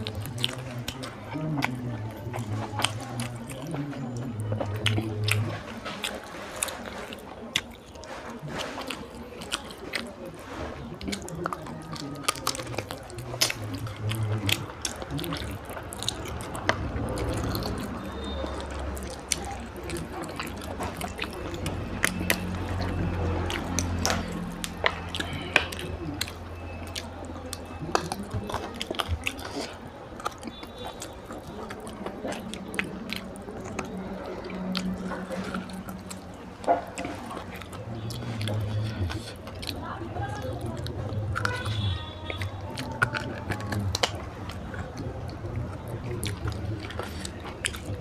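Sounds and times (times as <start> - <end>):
wet chewing and lip-smacking: 0.0 - 48.0
wet mouth clicks: 0.0 - 48.0.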